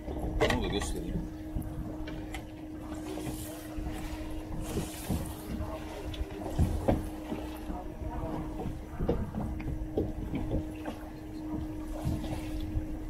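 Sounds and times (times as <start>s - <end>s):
steady boat hum: 0.0s - 13.0s
wind and water rumble: 0.0s - 13.0s.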